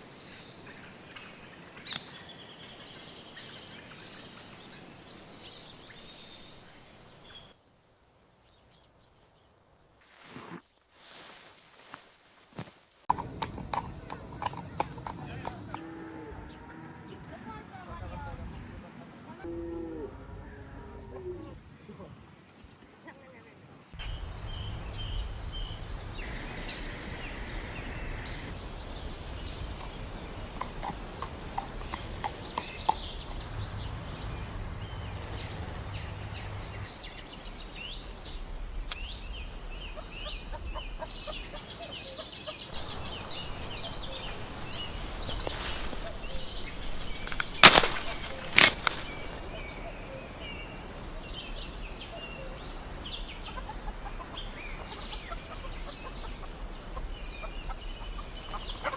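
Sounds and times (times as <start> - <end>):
birds chirping: 0.0 - 7.6, 13.1 - 19.6, 24.0 - 58.9.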